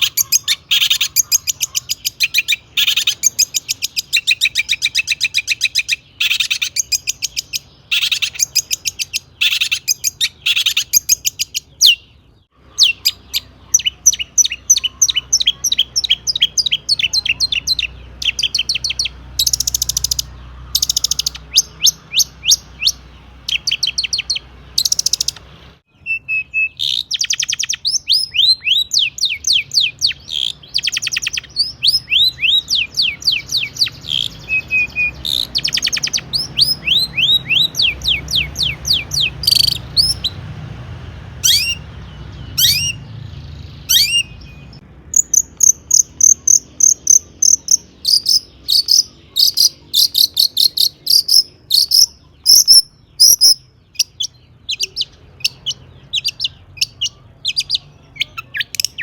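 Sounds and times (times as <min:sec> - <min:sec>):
bird singing fast whistles: 0:00.0 - 0:12.0, 0:12.7 - 0:25.4, 0:26.0 - 0:40.4, 0:41.4 - 0:41.8, 0:42.6 - 0:43.0, 0:43.9 - 0:59.0.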